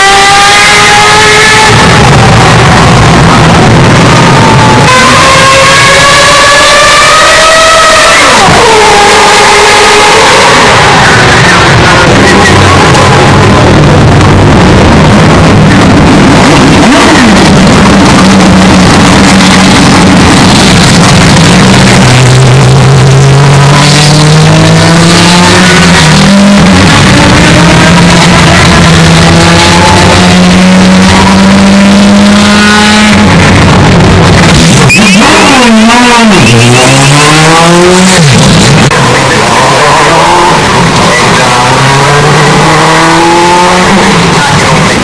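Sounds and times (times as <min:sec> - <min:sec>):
distorted racing car engine: 0:00.0 - 0:45.0.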